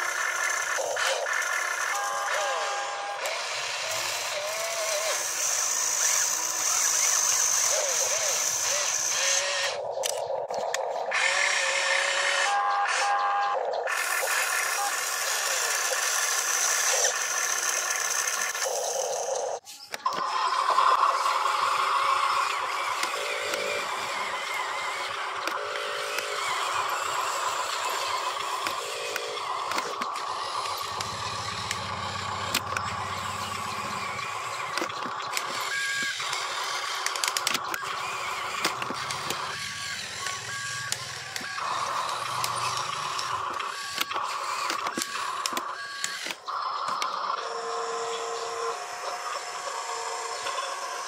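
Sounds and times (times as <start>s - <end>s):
small electric motors whining: 0.0s - 51.0s.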